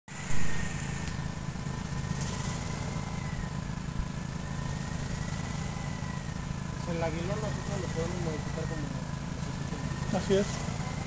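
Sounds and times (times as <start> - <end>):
sprayer motor humming with whine: 0.1 - 11.0.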